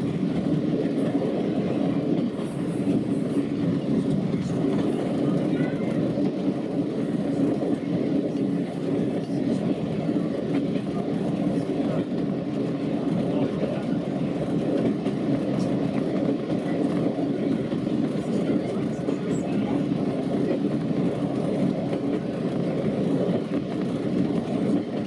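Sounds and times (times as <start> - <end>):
wheels rumbling on rails: 0.0 - 25.0.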